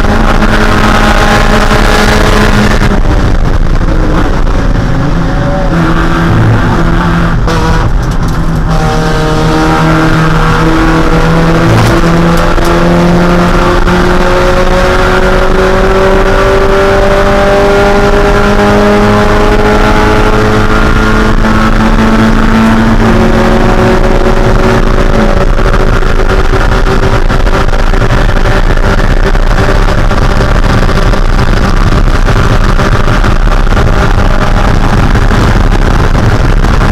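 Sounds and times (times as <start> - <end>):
race car engine under load: 0.0 - 36.9
road noise: 0.0 - 36.9
wind noise: 0.0 - 36.9.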